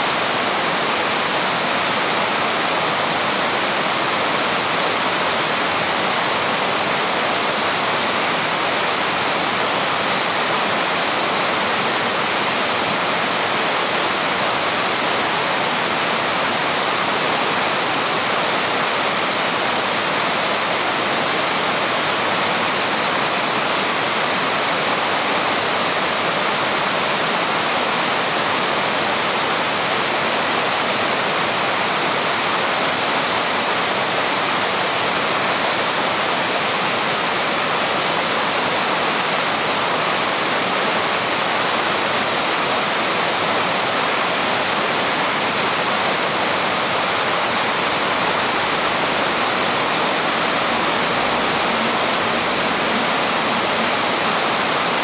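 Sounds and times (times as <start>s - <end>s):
waterfall pouring and splashing: 0.0s - 55.0s.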